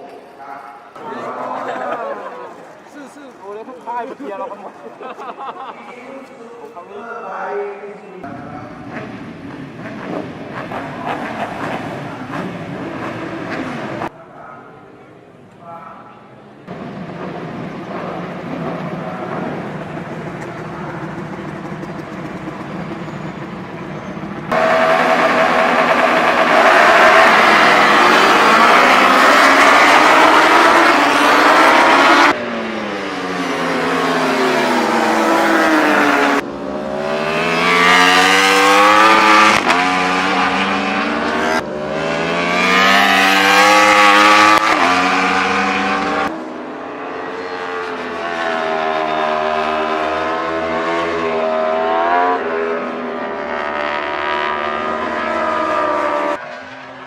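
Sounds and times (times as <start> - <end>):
racing motorcycle engines revving: 8.2 - 14.2, 16.6 - 57.0.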